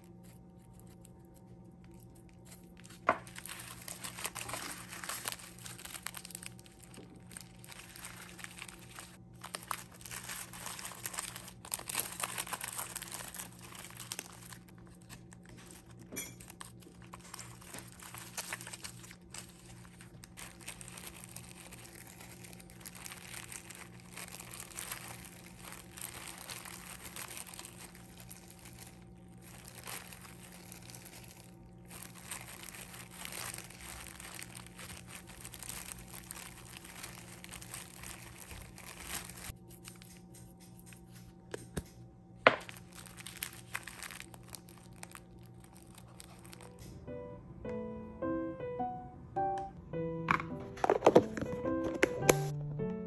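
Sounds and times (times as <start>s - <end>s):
plastic wrapper crinkling: 0.0s - 47.0s
refrigerator hum: 0.0s - 48.1s.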